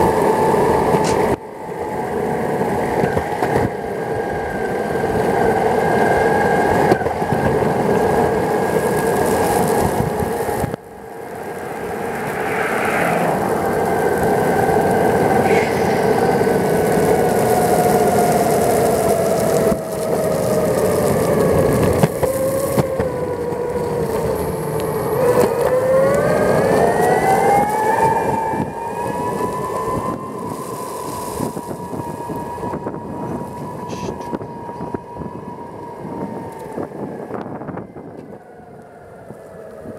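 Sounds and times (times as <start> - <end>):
wheels rumbling on pavement: 0.0 - 39.9
electric motor whine: 5.3 - 39.8.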